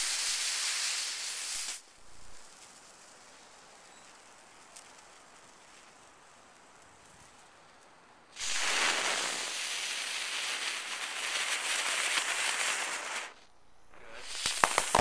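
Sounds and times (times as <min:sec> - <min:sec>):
firework hissing: 0:00.0 - 0:06.4, 0:08.3 - 0:15.0.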